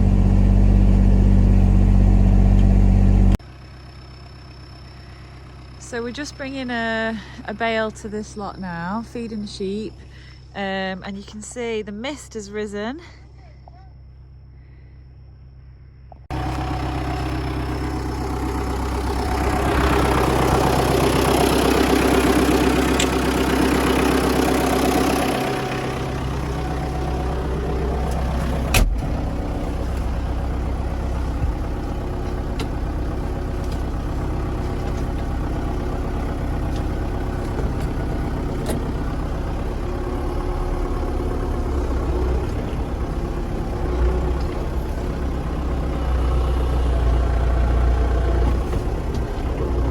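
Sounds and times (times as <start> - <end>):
farm vehicle engine running: 0.0 - 14.8, 16.1 - 49.9.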